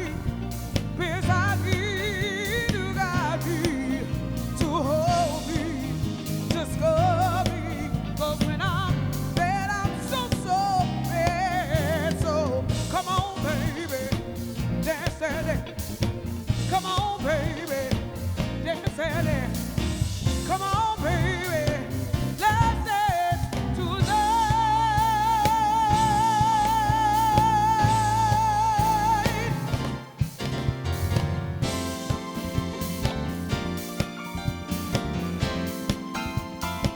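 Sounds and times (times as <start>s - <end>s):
lead singer singing: 0.0s - 30.3s
soul band playing: 0.0s - 36.9s.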